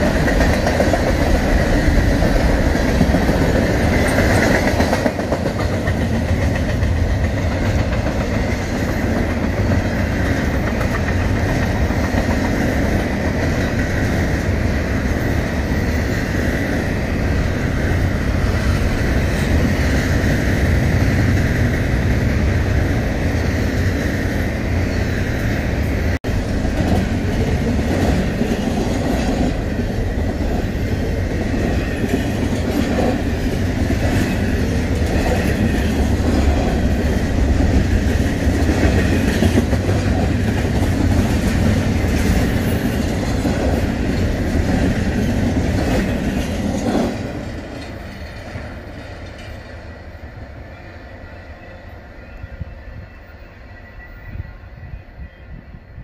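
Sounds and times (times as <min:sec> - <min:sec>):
train wheels clickety-clack: 0:00.0 - 0:50.6
freight train rumble and rattle: 0:00.0 - 0:56.0.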